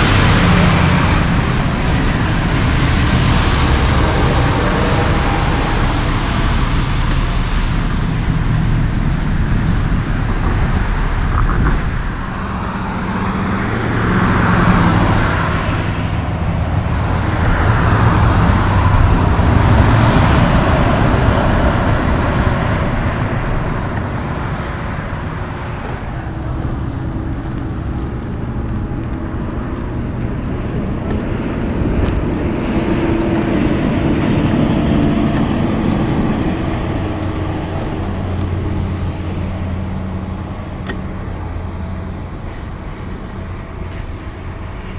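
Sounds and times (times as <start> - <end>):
truck engine drone: 0.0 - 44.9
tyre and road rush: 0.0 - 44.9.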